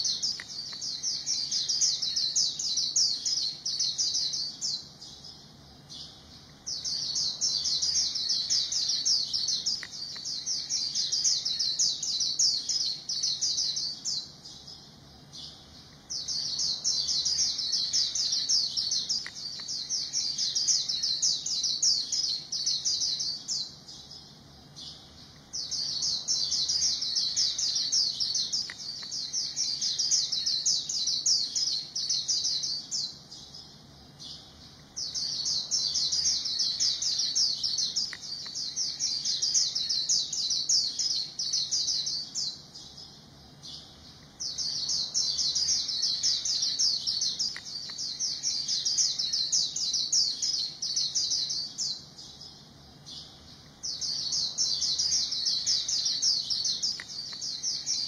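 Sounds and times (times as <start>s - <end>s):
bird twittering: 0.0s - 58.0s.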